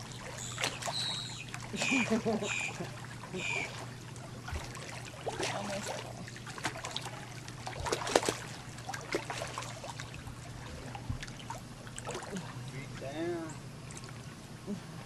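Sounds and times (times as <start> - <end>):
pool water splashing: 0.0 - 15.0
steady low hum: 0.0 - 15.0.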